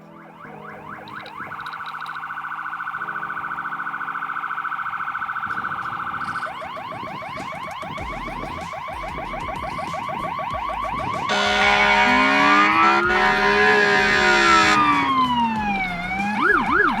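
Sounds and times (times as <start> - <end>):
deep low siren tone: 0.0 - 17.0
fire engine siren: 0.0 - 17.0.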